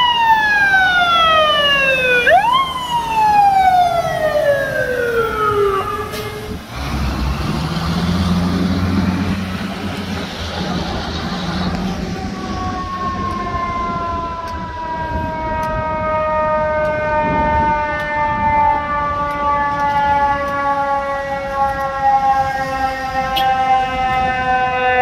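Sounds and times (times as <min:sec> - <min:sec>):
emergency siren wailing: 0:00.0 - 0:25.0.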